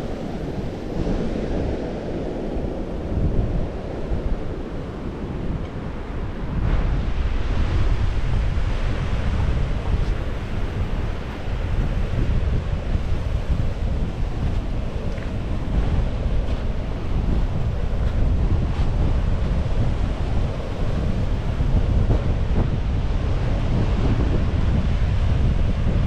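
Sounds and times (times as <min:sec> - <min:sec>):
ocean surf: 0:00.0 - 0:26.0
wind buffeting microphone: 0:00.0 - 0:26.0.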